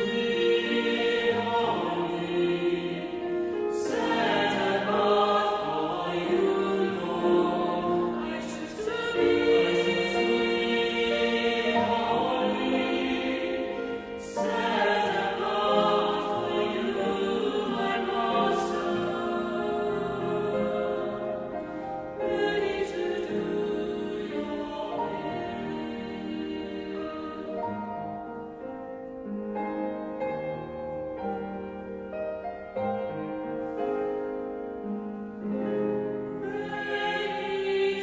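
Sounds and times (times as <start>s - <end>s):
choir singing a worship song: 0.0s - 28.6s, 33.2s - 38.0s.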